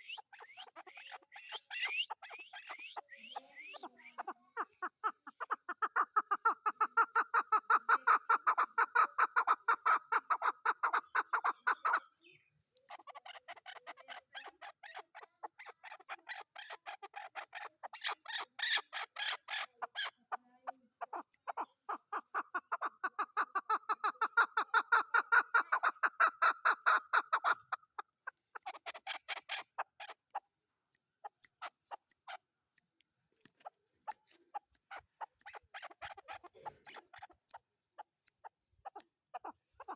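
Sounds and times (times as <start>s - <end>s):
partridge clucking calls: 0.0s - 12.2s, 12.8s - 39.9s.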